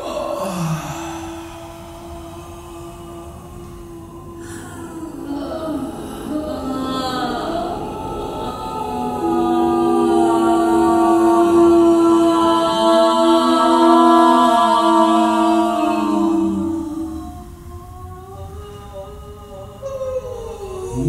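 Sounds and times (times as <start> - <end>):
voices singing held notes: 0.0 - 21.0.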